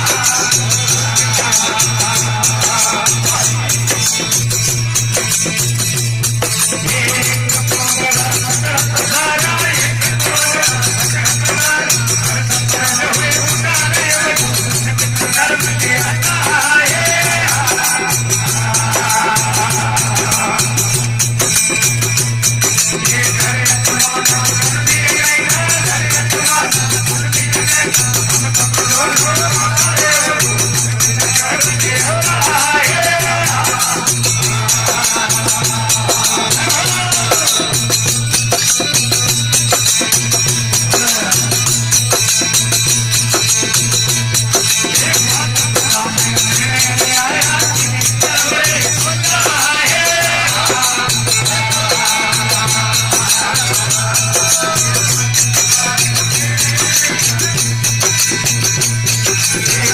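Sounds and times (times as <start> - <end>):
jingling hand percussion: 0.0 - 59.9
person singing devotional song: 0.0 - 59.9.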